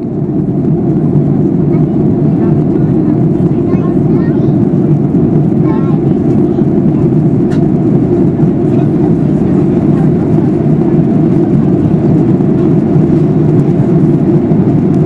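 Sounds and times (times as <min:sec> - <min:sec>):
airplane cabin engine rush: 0:00.0 - 0:15.0.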